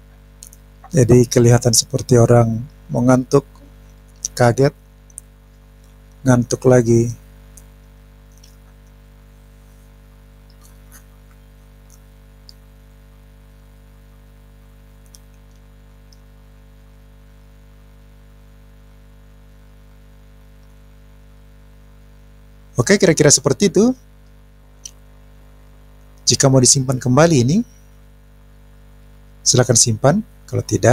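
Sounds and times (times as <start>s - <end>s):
low electrical hum: 0.0s - 30.9s.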